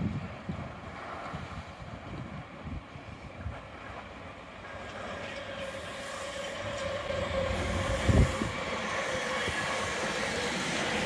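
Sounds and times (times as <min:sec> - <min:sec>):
electric train passing: 0:00.0 - 0:11.0
steady train whine: 0:00.0 - 0:11.0.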